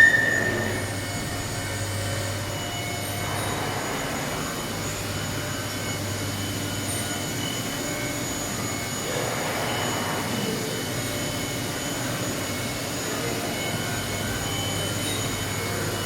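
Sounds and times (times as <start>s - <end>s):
high whining tones: 0.0s - 16.0s
machine hum and hiss: 0.0s - 16.0s.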